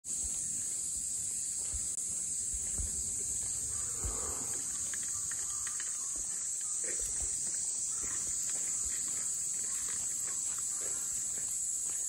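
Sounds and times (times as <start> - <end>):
cicadas droning: 0.1 - 12.0.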